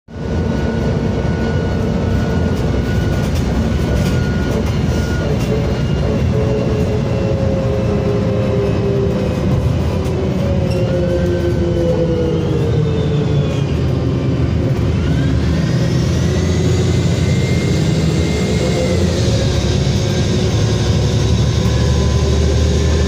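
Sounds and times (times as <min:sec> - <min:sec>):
bus engine rumble: 0:00.1 - 0:23.0
higher whine: 0:00.1 - 0:23.0
steady whine: 0:00.1 - 0:23.0.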